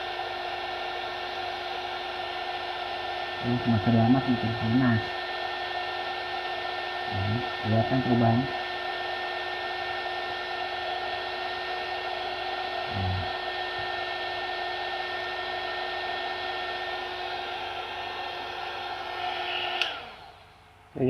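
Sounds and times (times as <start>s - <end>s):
heat gun fan humming: 0.0s - 21.0s.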